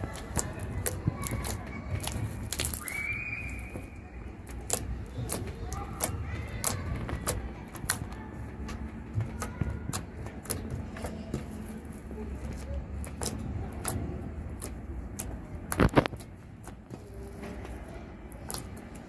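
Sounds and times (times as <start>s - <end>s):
slime clicking and popping: 0.0s - 19.0s.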